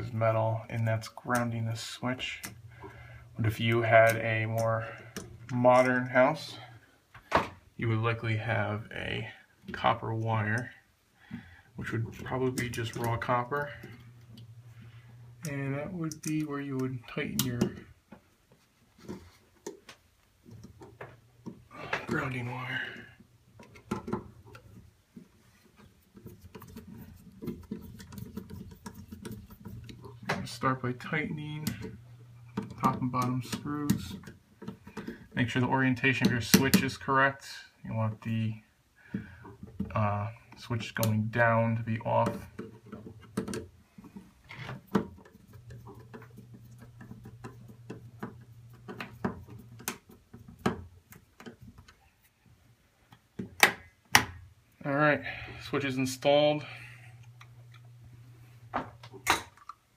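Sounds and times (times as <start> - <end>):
ticks and scratches of handling: 0.0 - 6.8, 7.8 - 59.9.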